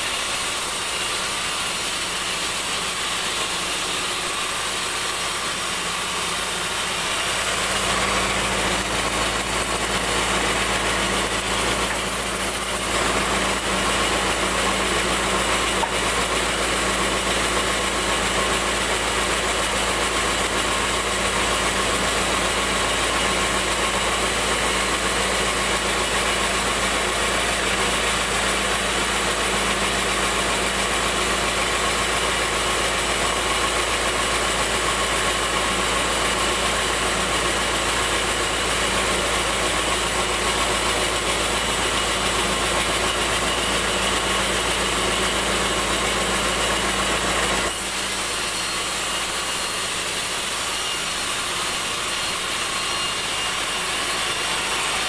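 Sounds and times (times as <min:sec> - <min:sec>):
bandsaw machinery humming: 0:00.0 - 0:55.0.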